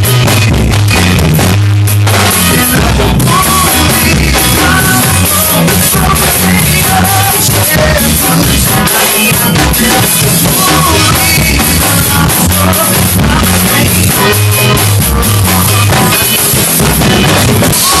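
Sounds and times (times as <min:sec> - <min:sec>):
rock band with singing: 0:00.0 - 0:18.0.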